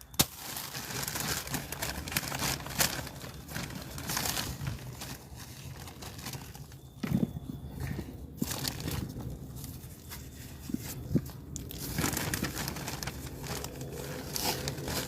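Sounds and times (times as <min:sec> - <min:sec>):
soil rustling and crackling: 0:00.0 - 0:15.0.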